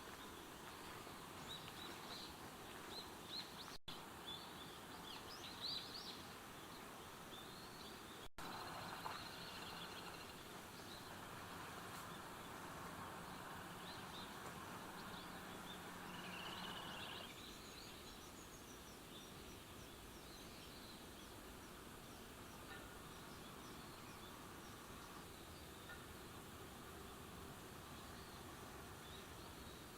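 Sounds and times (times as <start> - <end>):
small birds chirping: 0.0 - 29.9
steady background noise: 0.0 - 29.9.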